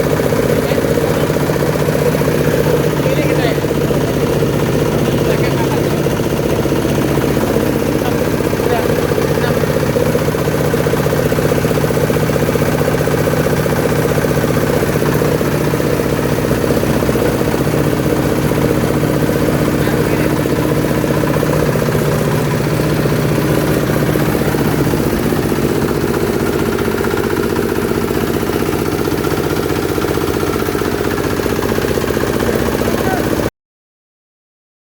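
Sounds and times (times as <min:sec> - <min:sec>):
grinding machine drone: 0:00.0 - 0:33.5.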